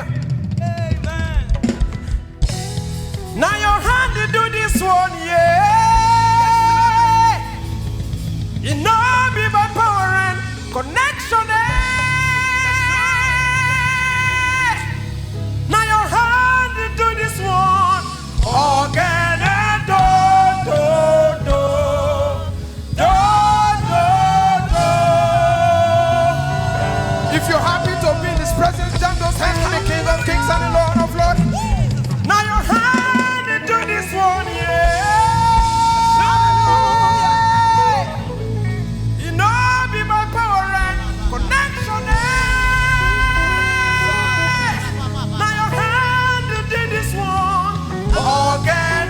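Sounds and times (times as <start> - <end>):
band playing bass and drums: 0.0 - 49.0
person singing: 0.0 - 49.0.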